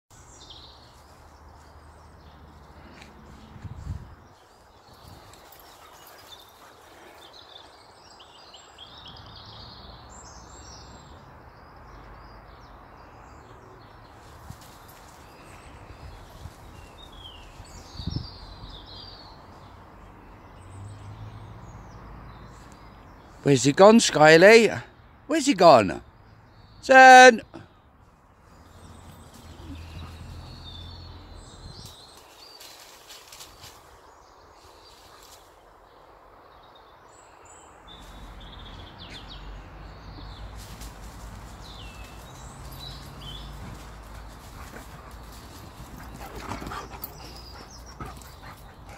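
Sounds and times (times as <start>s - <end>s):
birds chirping: 0.1s - 48.9s.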